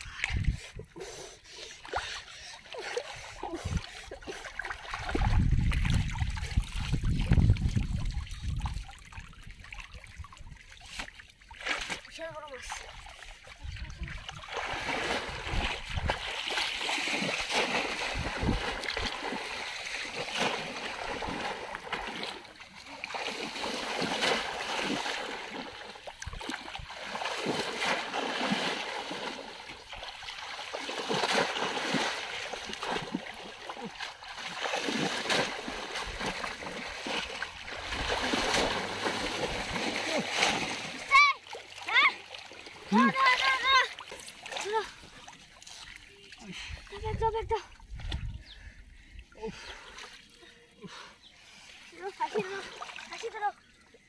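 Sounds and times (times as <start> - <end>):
people wading through water: 0.0 - 54.0
shallow water splashing: 1.7 - 54.0.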